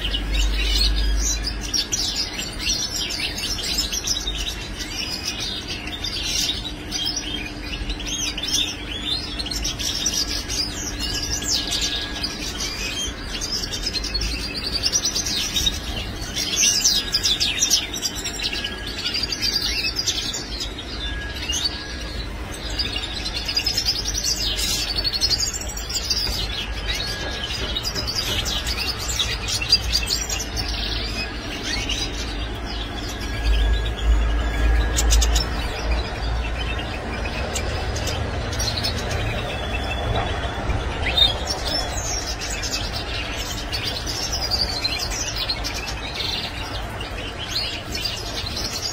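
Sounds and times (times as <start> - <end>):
goldfinches twittering and trilling: 0.0 - 48.9.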